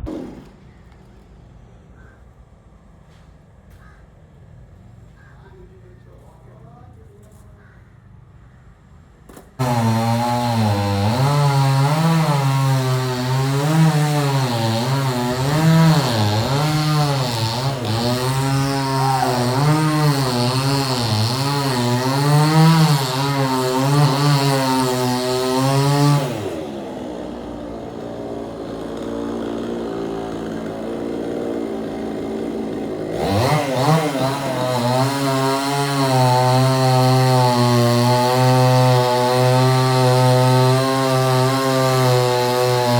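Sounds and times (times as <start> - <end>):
chainsaw cutting: 0.0 - 6.7, 9.3 - 42.9.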